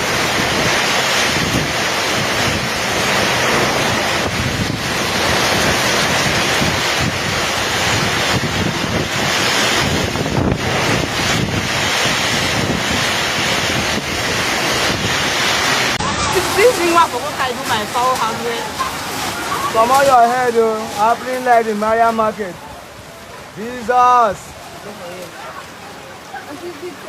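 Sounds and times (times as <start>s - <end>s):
heavy rain: 0.0s - 27.0s
wind buffeting microphone: 0.0s - 27.0s.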